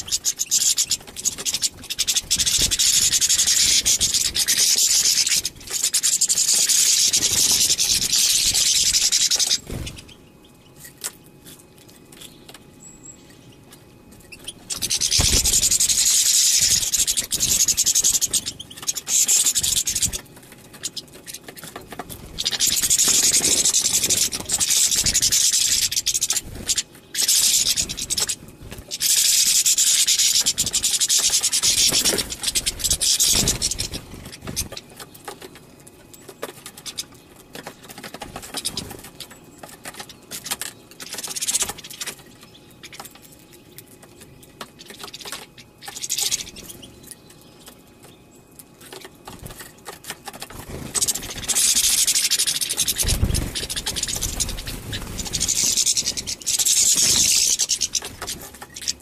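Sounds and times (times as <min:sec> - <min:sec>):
finches twittering: 0:00.0 - 0:11.1, 0:12.0 - 0:35.5, 0:36.2 - 0:59.0.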